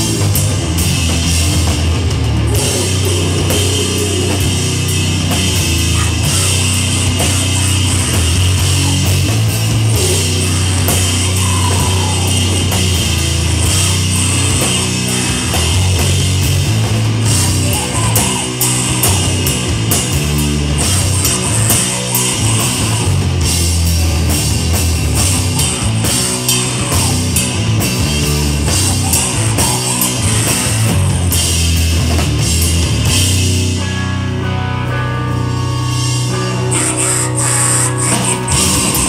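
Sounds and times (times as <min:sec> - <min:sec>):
distorted electric guitar: 0:00.0 - 0:39.0
drum kit: 0:00.0 - 0:39.0.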